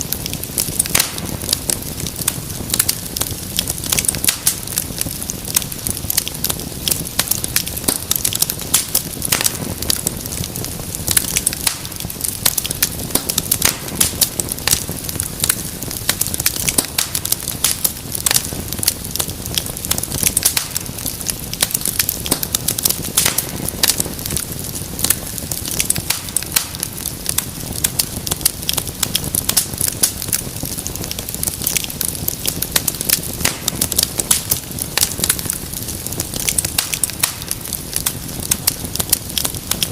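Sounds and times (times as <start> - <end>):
low rumble of burning: 0.0 - 39.9
wood fire pops and snaps: 0.0 - 39.9.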